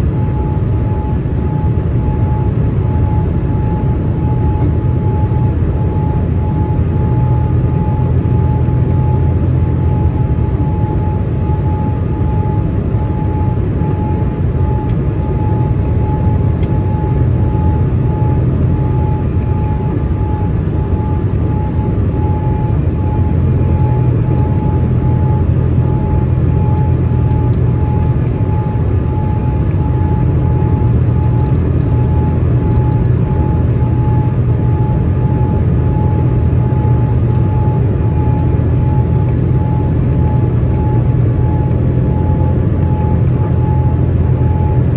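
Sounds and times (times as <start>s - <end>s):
airliner engine rumble: 0.0s - 44.9s
thin steady whine: 0.0s - 44.9s.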